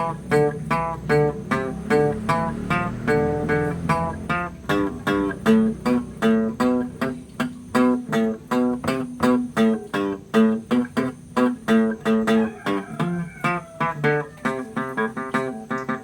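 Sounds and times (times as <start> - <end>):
guitar plucked melody: 0.0 - 16.0.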